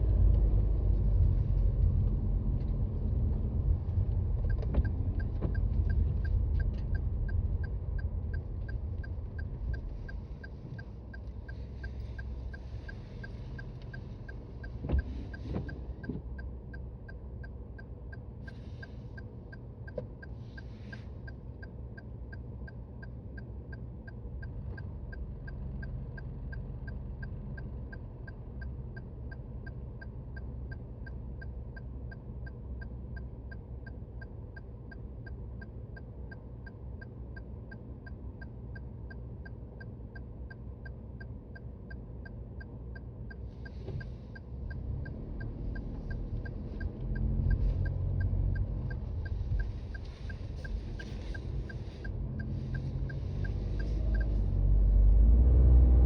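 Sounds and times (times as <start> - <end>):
turn signal ticking: 0.1 - 56.0.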